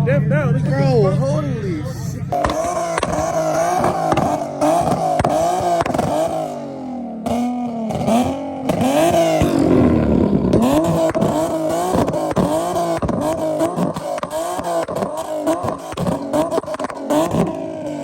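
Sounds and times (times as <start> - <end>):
sports car engine revving: 0.0 - 18.0
exhaust pops: 2.3 - 6.6, 7.2 - 18.0.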